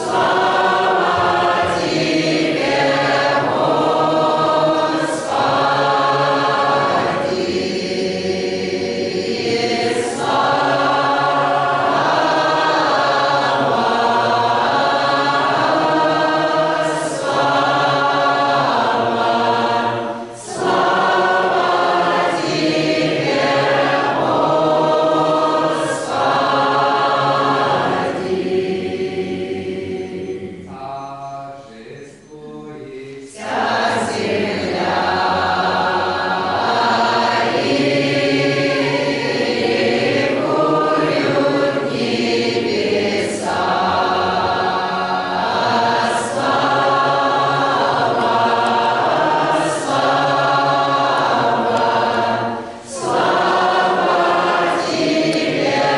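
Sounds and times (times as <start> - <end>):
choir singing in harmony: 0.0 - 55.9.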